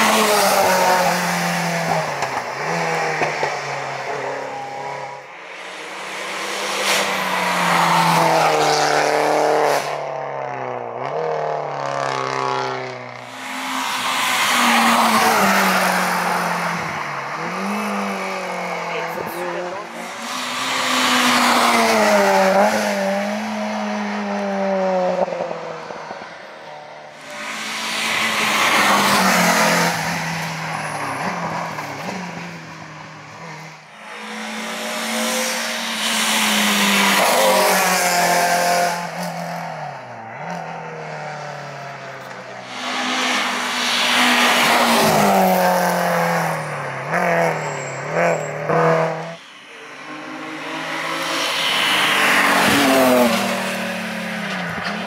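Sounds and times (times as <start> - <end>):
racing car engine at full throttle: 0.0 - 55.0.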